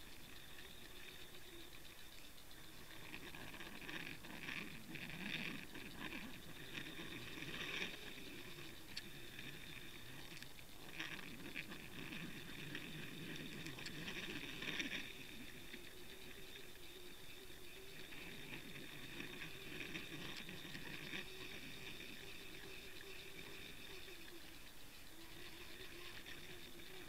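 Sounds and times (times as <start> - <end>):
muffled underwater crackling: 0.0 - 27.0
steady high hum: 0.0 - 27.0.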